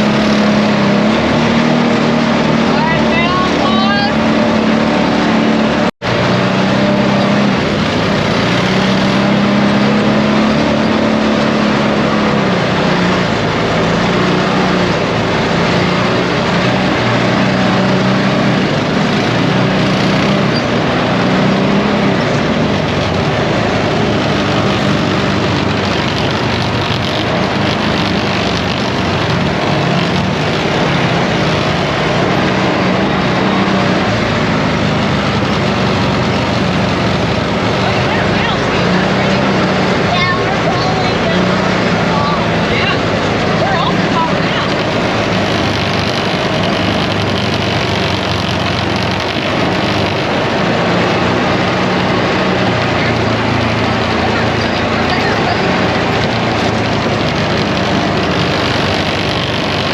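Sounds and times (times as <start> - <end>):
atv engine running: 0.0 - 59.9
rushing noise: 0.0 - 59.9.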